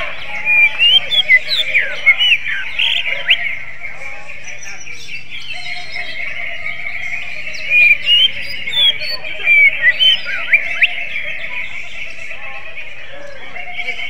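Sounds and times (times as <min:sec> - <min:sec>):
bird singing: 0:00.0 - 0:14.0
chatter of bird notes: 0:00.0 - 0:14.0
loud whistled bird notes: 0:00.0 - 0:14.0.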